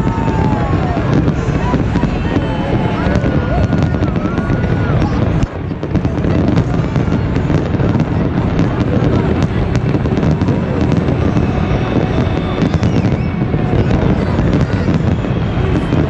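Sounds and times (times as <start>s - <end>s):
fireworks booming: 0.0s - 16.0s
fireworks crackling bangs: 0.0s - 16.0s.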